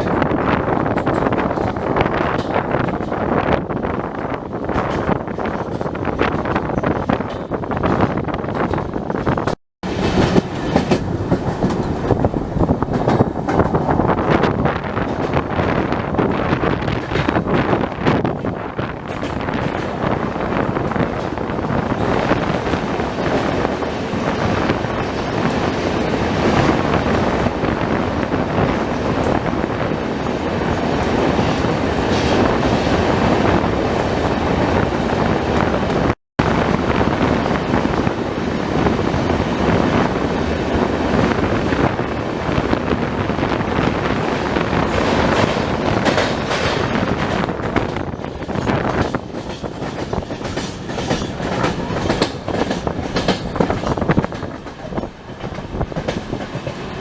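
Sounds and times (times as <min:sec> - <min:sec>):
train wheels rumbling on track: 0:00.0 - 0:57.0
wind noise: 0:00.0 - 0:57.0.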